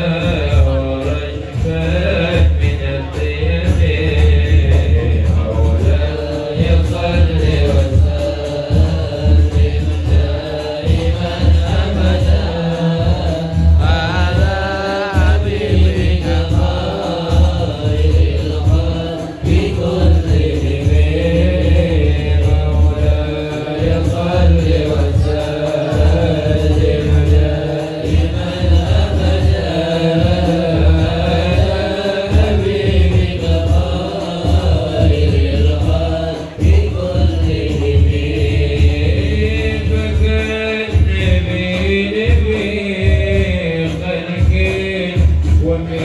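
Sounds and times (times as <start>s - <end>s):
group chanting devotional songs: 0.0s - 46.0s.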